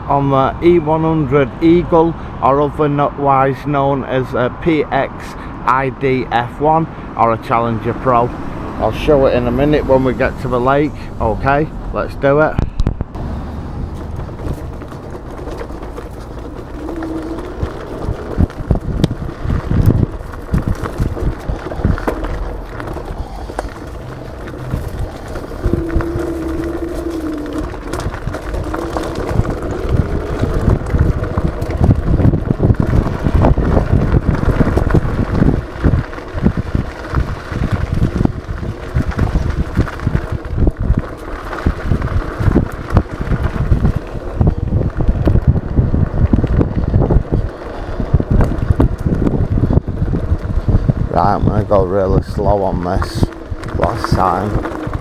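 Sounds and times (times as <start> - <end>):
scooter tyre rumble: 0.0 - 55.0
wind buffeting microphone: 0.0 - 55.0.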